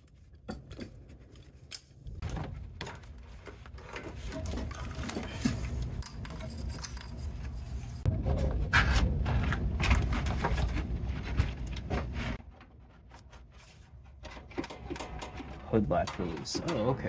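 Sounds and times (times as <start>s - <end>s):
hands scraping and rubbing parts: 0.0s - 17.0s.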